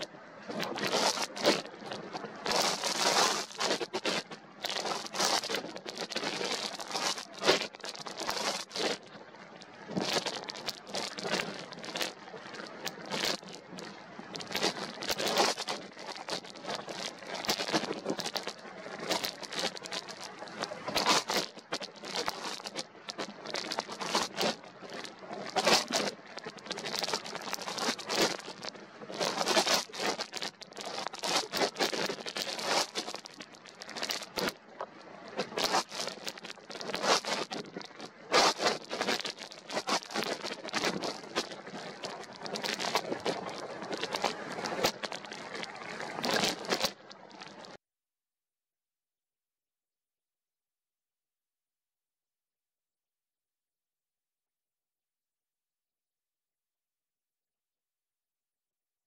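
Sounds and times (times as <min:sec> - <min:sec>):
sharp crackles: 0:00.0 - 0:47.8.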